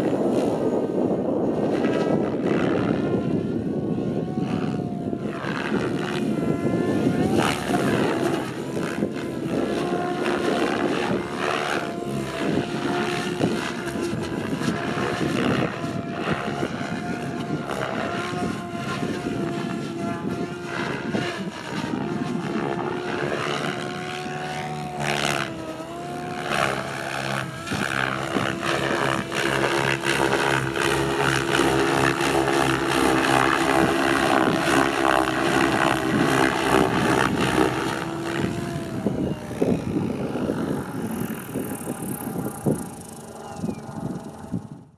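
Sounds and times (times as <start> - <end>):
model helicopter motor whine: 0.0 - 44.9
rushing rotor blades: 0.0 - 44.9.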